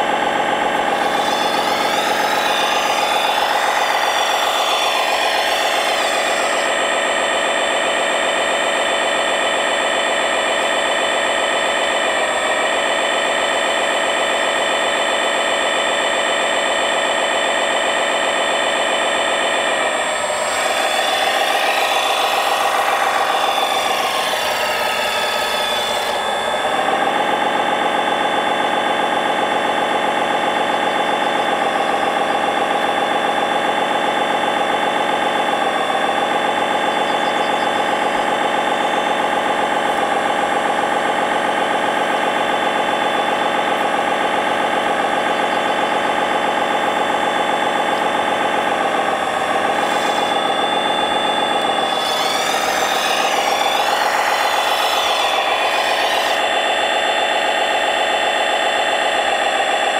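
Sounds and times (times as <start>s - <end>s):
high hissing whine: 0.0s - 59.9s
toy machine engine drone with whine: 0.0s - 59.9s.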